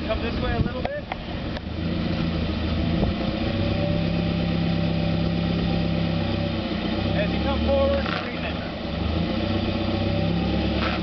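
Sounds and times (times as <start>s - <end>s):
truck engine running low revs: 0.0s - 11.0s.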